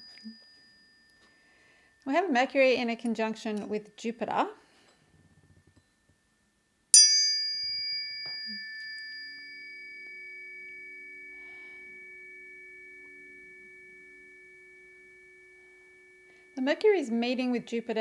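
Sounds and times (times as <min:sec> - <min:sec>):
tuning forks ringing: 0:00.0 - 0:03.8, 0:04.9 - 0:18.0.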